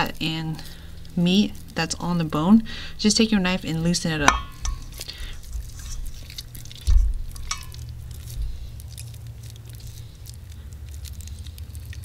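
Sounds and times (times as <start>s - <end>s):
steady low hum: 0.0s - 12.0s
wet squishing of raw meat: 0.0s - 12.0s.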